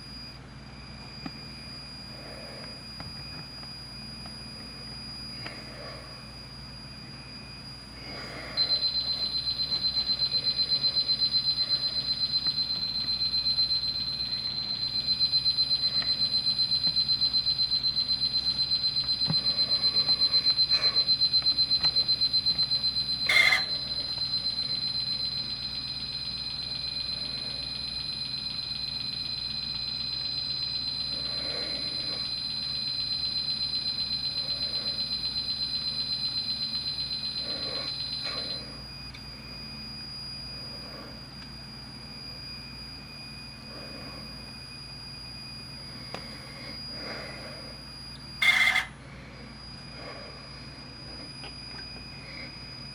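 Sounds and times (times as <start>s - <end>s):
cassette deck high-pitched squeal: 0.0s - 52.9s.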